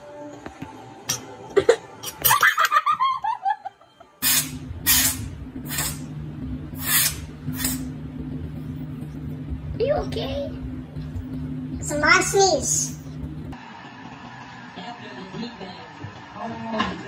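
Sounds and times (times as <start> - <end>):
steady low hum: 1.1 - 17.0.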